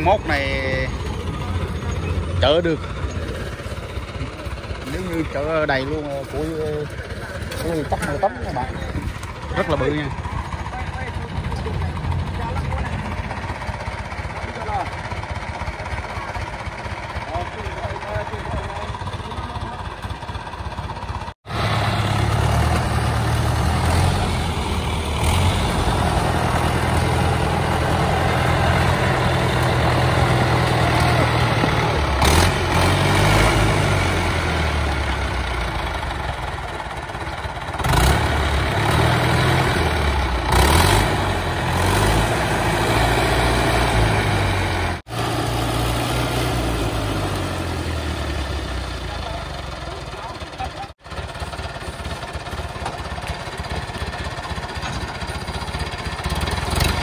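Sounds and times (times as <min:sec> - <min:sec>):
tractor diesel engine revving: 0:00.0 - 0:57.0.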